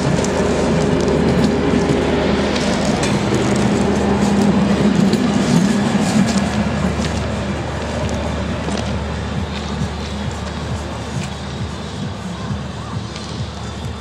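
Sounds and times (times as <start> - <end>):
train wheels clacking over joints: 0.0 - 14.0.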